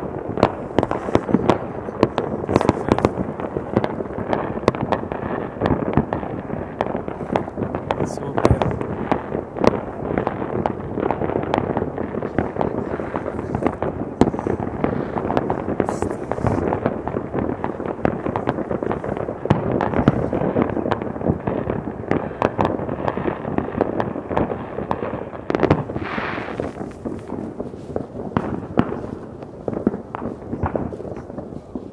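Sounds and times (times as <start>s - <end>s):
fireworks crackling and banging: 0.0s - 31.9s.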